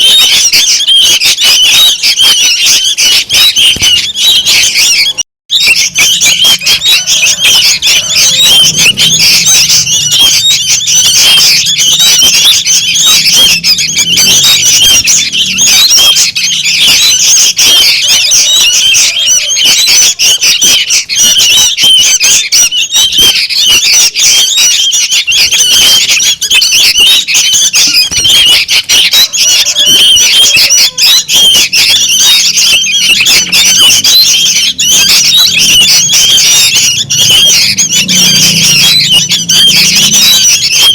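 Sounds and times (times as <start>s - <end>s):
bird chicks chattering calls: 0.0s - 40.9s.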